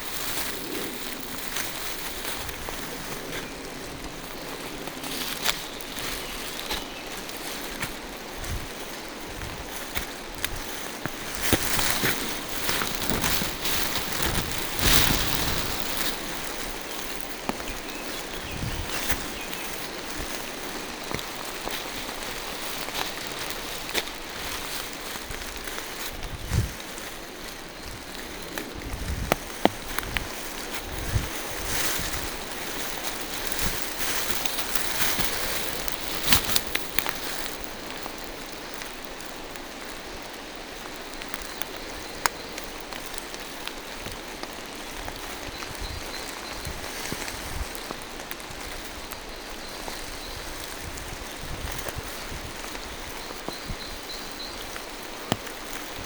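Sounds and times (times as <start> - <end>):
rain falling through trees: 0.0 - 56.0.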